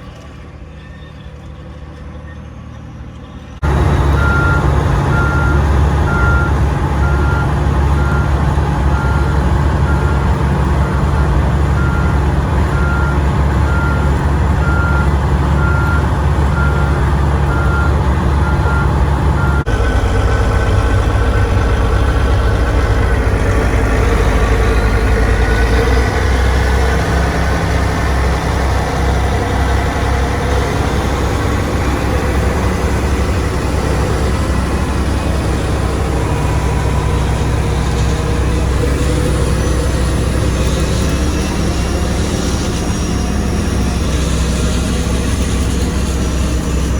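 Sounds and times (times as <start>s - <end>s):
diesel machinery engine running: 0.0s - 46.9s.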